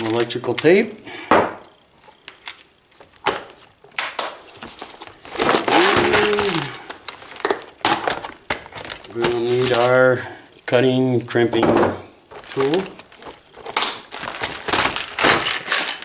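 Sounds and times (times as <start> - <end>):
rustling and crinkling: 1.8 - 10.2, 11.3 - 16.0.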